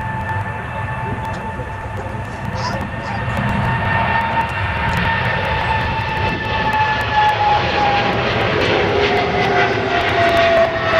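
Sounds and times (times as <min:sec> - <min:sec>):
jet engines rumbling and whining: 0:00.0 - 0:10.9.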